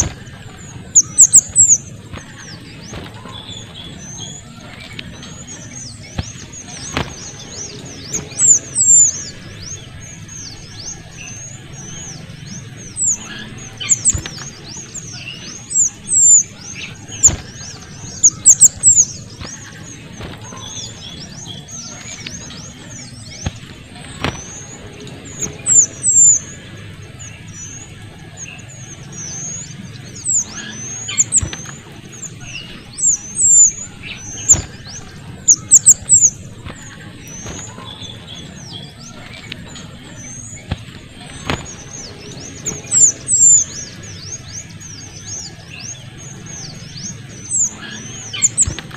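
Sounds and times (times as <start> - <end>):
songbird high-pitched chirping song: 0.0 - 48.9.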